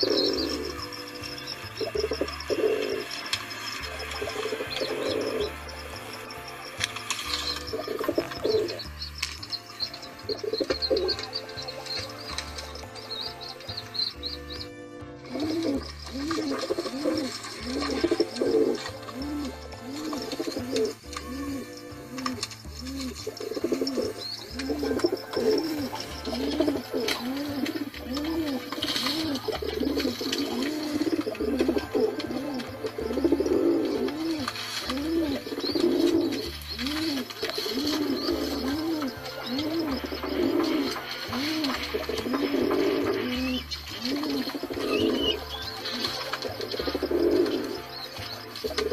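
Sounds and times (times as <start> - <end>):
pigeons cooing: 0.0 - 48.9.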